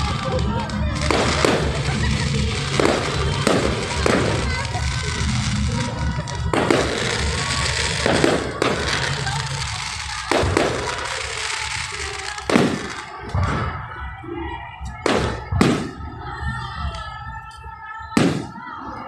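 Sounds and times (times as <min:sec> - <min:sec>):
fireworks crackling: 0:00.0 - 0:14.0, 0:14.8 - 0:19.0
fireworks bangs: 0:00.0 - 0:14.1, 0:14.9 - 0:17.1, 0:18.1 - 0:18.8
background music: 0:00.0 - 0:19.0.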